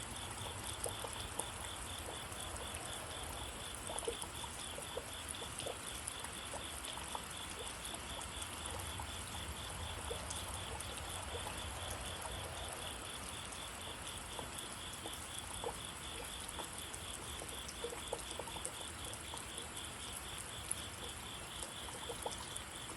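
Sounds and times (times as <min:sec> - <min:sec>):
steady rain falling: 0:00.0 - 0:22.9
water dripping: 0:00.0 - 0:22.9.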